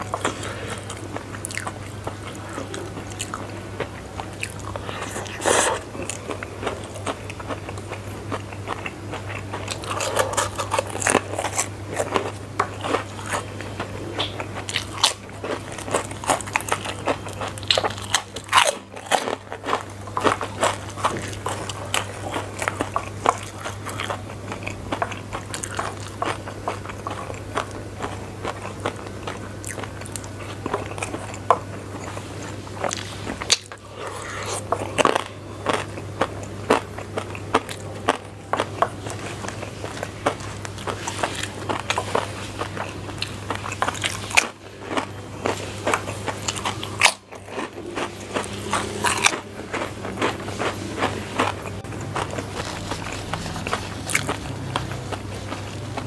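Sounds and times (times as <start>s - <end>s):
chewing noodles: 0.0s - 56.0s
crackers crunching: 0.0s - 56.0s
low steady hum: 0.0s - 56.0s.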